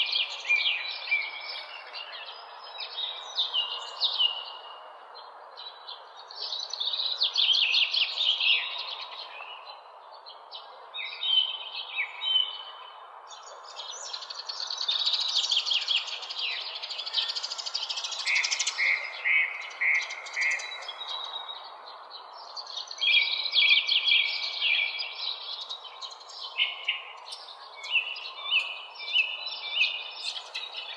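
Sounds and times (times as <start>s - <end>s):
songbirds singing and chirping: 0.0s - 30.9s.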